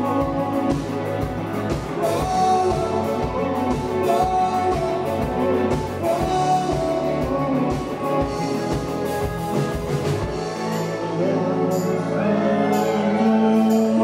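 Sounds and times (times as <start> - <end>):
bass guitar: 0.0 - 14.0
electric guitar: 0.0 - 14.0.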